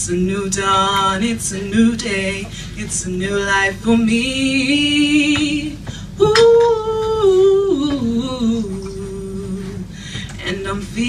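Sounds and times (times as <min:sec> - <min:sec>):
woman singing ooh: 0:00.0 - 0:11.0.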